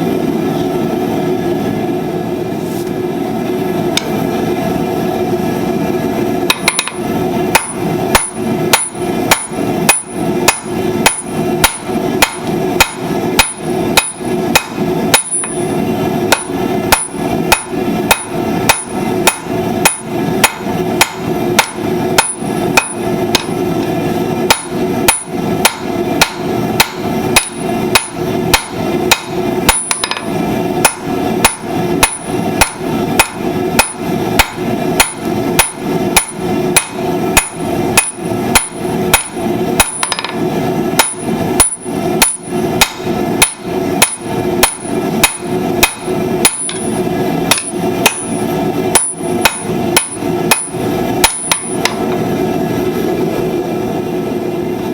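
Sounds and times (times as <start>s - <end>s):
steady hum: 0.0s - 54.9s
hammer striking steel on anvil: 6.5s - 23.6s, 24.5s - 52.2s.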